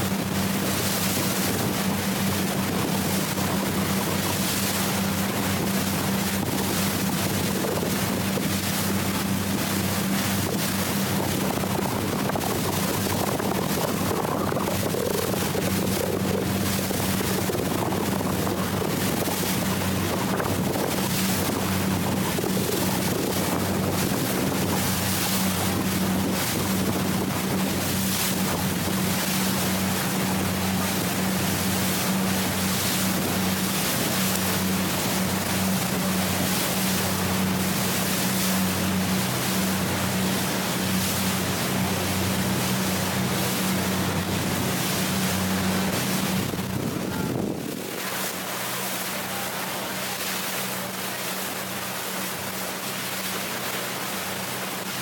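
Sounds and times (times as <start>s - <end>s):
speedboat engine drone: 0.0s - 55.0s
wind and water spray rushing: 0.0s - 55.0s.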